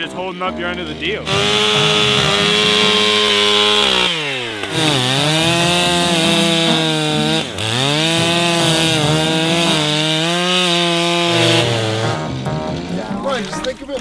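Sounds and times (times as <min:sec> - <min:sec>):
chainsaw cutting ice: 0:00.0 - 0:14.0.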